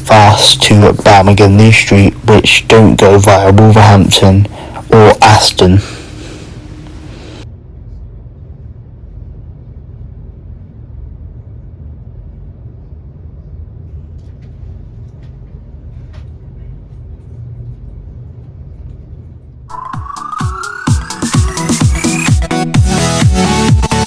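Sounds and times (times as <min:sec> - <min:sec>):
train running at speed: 0:00.0 - 0:22.4.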